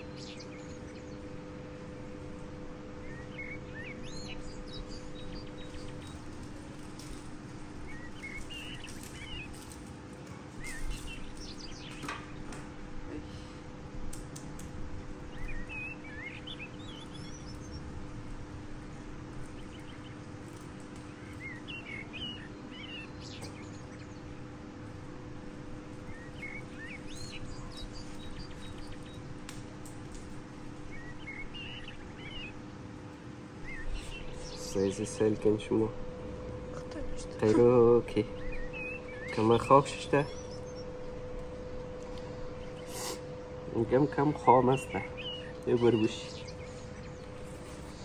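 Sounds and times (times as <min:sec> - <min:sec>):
small birds chirping: 0:00.0 - 0:48.0
steady low hum: 0:00.0 - 0:48.0.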